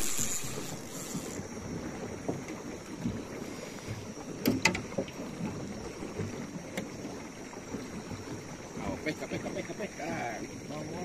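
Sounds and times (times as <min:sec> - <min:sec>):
water lapping and sloshing: 0:00.0 - 0:11.0.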